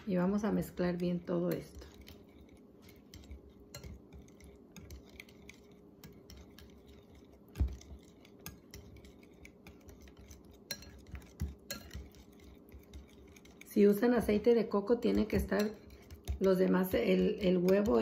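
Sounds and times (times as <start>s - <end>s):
whisk tapping glass bowl: 0.0s - 18.0s.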